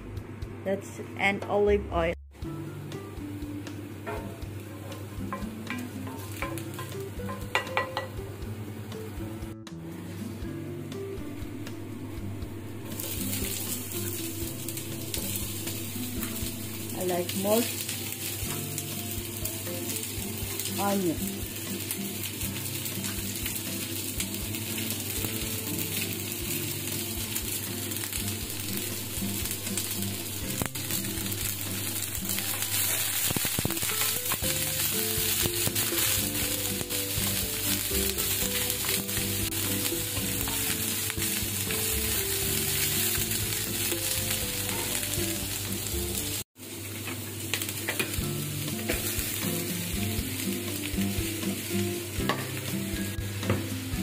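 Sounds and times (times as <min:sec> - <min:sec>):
soft background music: 0:00.0 - 0:46.5, 0:47.7 - 0:54.0
onions and shrimp sizzling in oil: 0:02.4 - 0:54.0.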